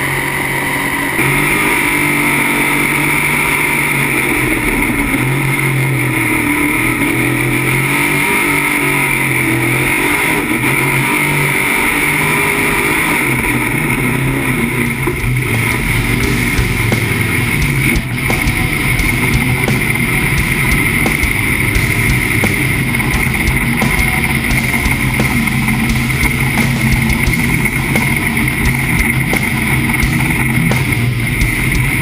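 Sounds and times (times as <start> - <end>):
boat engine running hard: 0.0 - 32.0.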